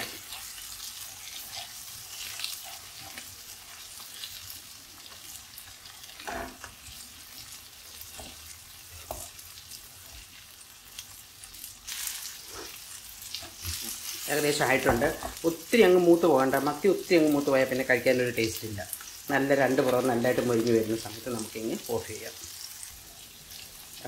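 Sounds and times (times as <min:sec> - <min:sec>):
fish sizzling in oil: 0:00.0 - 0:24.0.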